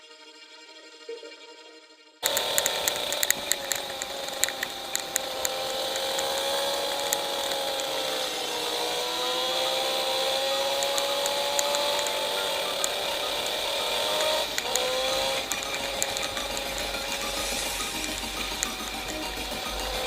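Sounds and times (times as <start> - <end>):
sharp ticks and crackles: 2.2 - 20.0
two-stroke motorcycle engine running: 2.2 - 20.0.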